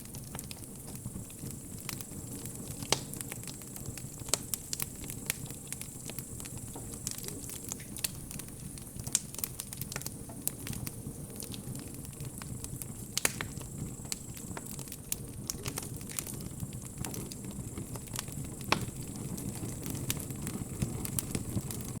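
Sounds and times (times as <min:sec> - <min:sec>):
bonfire crackling and popping: 0:00.0 - 0:22.0
low rumble of flames: 0:00.0 - 0:22.0.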